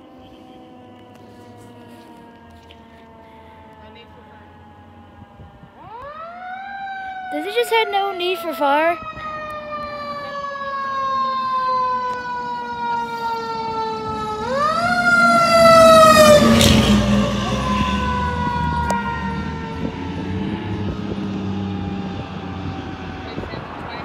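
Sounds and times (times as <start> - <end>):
fire engine siren wailing: 0.0 - 24.0
truck engine rumble: 0.0 - 24.0.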